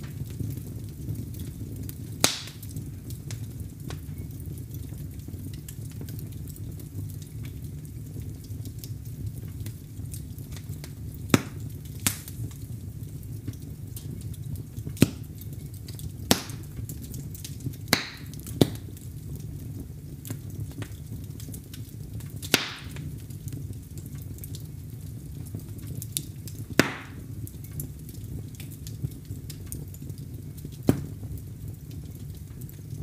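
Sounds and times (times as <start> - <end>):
burning logs popping: 0.0 - 33.0
fire flame rumble: 0.0 - 33.0.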